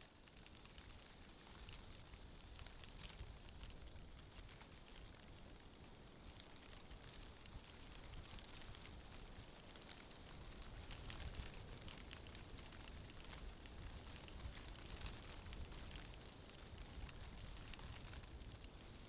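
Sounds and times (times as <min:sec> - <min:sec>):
soft crackling rustle: 0:00.0 - 0:19.0.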